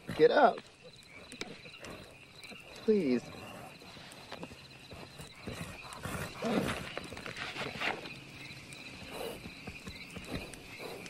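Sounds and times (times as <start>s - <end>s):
horse groaning and breathing heavily: 0.0s - 8.1s, 8.9s - 11.0s.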